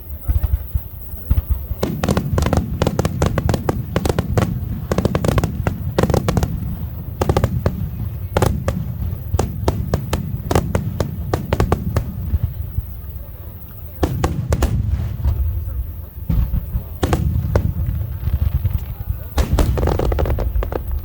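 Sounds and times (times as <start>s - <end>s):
fireworks cracking: 0.0s - 21.0s
rumble of fireworks booms: 0.0s - 21.0s.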